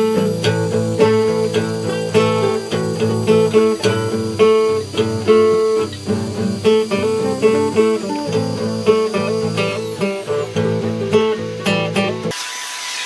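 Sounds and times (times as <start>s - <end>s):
acoustic guitar music: 0.0s - 12.3s.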